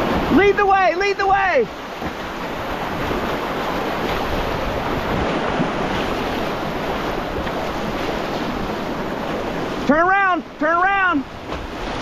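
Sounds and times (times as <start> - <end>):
whitewater rushing: 0.0 - 12.0.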